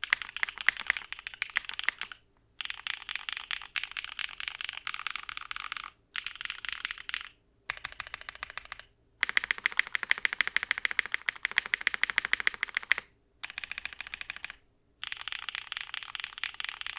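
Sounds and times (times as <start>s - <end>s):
fast typing on mechanical keyboard: 0.0s - 16.9s.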